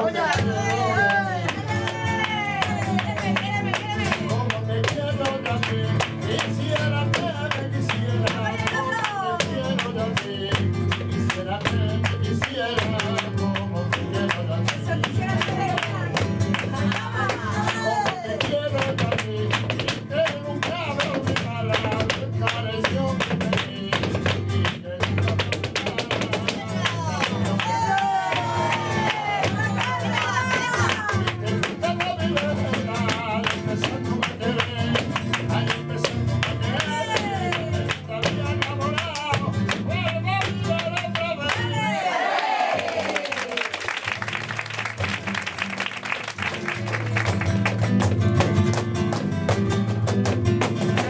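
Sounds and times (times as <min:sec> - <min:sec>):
man singing: 0:00.0 - 0:42.0, 0:47.8 - 0:51.0
flamenco guitar strumming: 0:00.0 - 0:42.1, 0:44.0 - 0:51.0.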